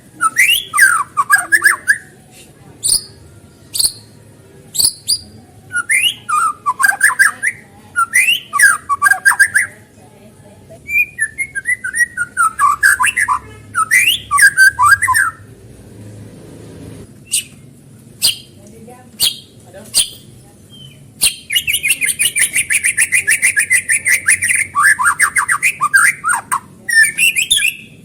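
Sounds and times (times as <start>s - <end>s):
bird singing whistled phrases: 0.2s - 2.2s, 2.8s - 9.8s, 10.9s - 15.4s, 17.2s - 17.6s, 18.2s - 18.6s, 19.2s - 28.0s.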